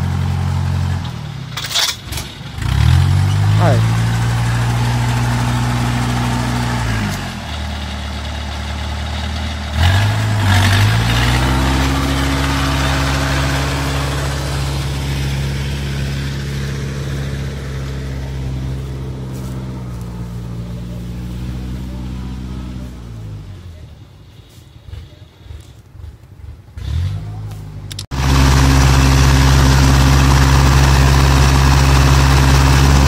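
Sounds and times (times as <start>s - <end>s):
engine running under load: 0.0s - 33.0s.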